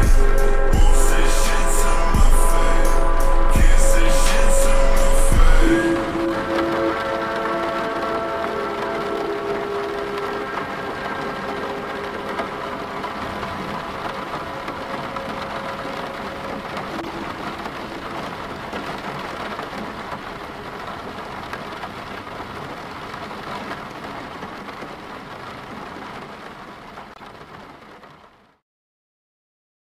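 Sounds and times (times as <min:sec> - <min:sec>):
rain on car roof: 0:04.1 - 0:28.6.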